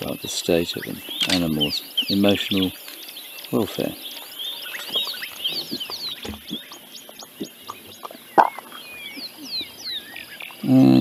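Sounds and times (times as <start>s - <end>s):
wild dogs twittering: 0.0s - 11.0s.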